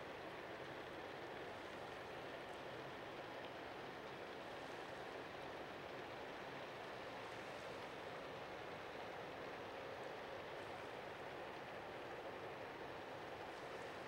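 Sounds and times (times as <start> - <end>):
faint hiss-like background noise: 0.0 - 14.0.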